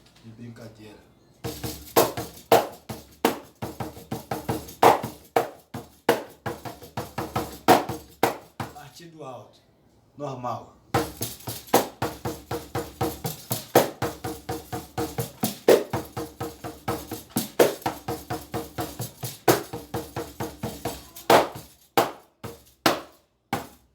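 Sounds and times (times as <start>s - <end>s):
pandeiro samba rhythm: 1.4s - 9.0s, 10.9s - 23.9s.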